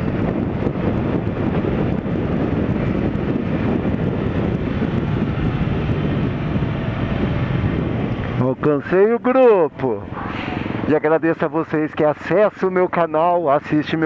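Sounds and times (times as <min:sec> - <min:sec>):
motorcycle engine drone: 0:00.0 - 0:14.0
wind rushing on microphone: 0:00.0 - 0:14.0.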